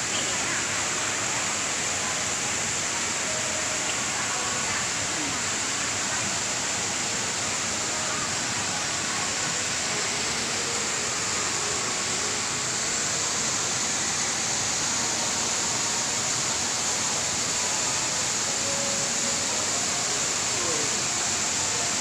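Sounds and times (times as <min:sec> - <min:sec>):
waterfall rushing hiss: 0:00.0 - 0:22.0.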